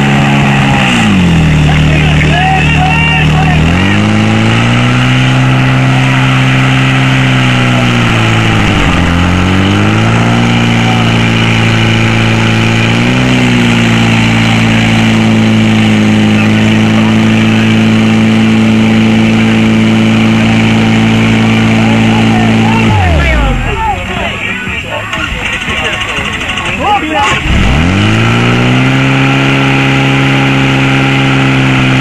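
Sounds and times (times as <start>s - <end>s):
pump engine running hard: 0.0s - 32.0s.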